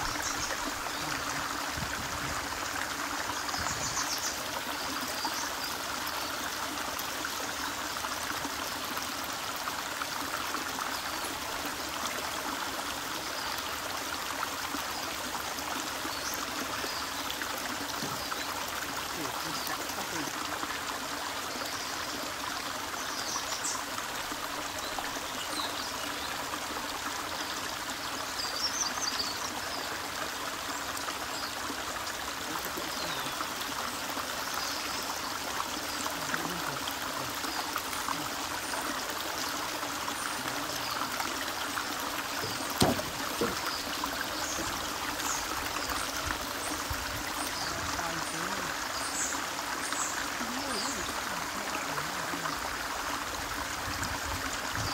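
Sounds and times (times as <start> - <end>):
stream flowing over rock: 0.0 - 54.9.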